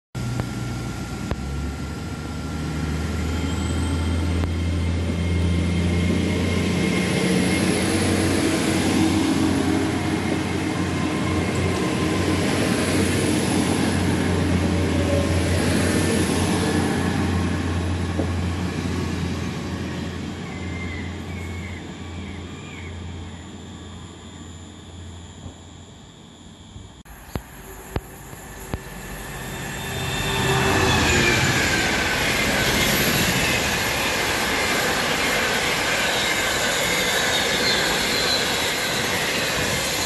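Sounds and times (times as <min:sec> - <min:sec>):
faint high whine: 0:00.2 - 0:15.6, 0:19.9 - 0:40.0
train running past: 0:00.2 - 0:40.0.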